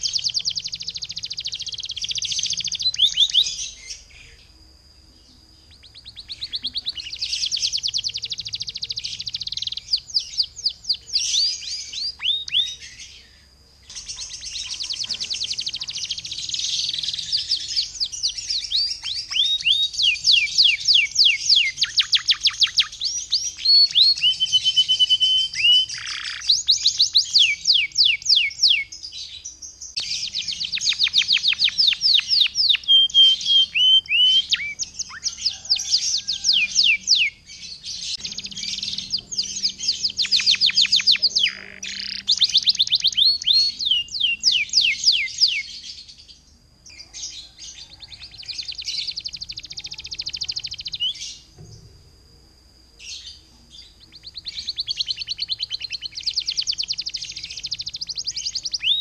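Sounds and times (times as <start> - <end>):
canary singing trills: 0.0 - 51.9, 52.6 - 59.0.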